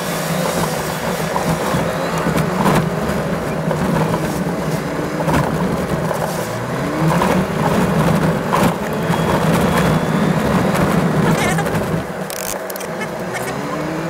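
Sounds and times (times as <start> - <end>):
car engine drone: 0.0 - 14.0
tyre and road noise: 0.0 - 14.0
knocks and rattles from bumps: 0.5 - 13.1.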